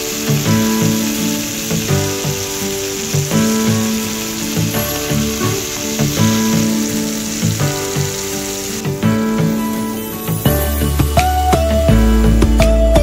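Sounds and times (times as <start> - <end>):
skewers sizzling in oil: 0.0 - 12.4
background music: 0.0 - 13.0.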